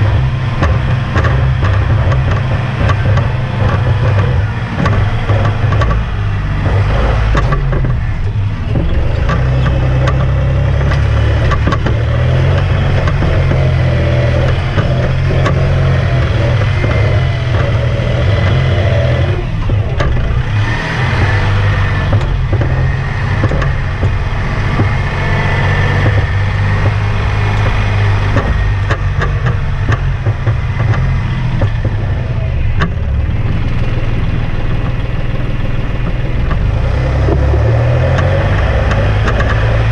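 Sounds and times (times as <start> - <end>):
knocks and rattles: 0.0 - 39.9
tractor diesel engine running: 0.0 - 39.9.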